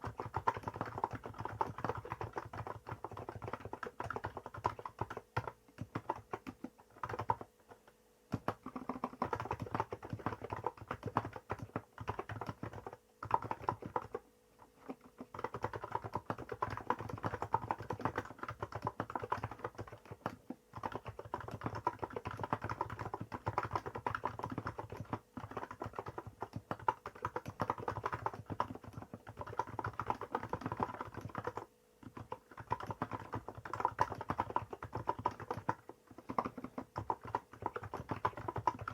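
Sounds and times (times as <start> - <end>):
typing on keyboard: 0.0 - 38.9.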